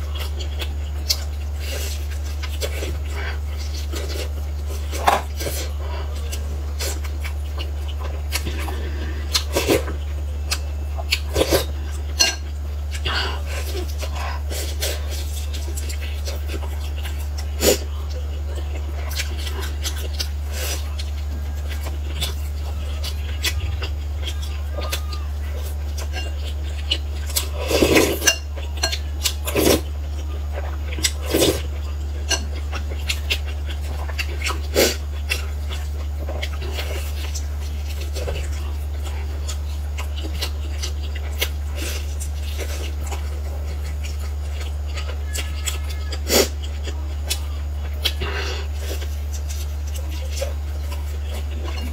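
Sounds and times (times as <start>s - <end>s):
food chewing: 0.0s - 51.9s
steady low hum: 0.0s - 51.9s.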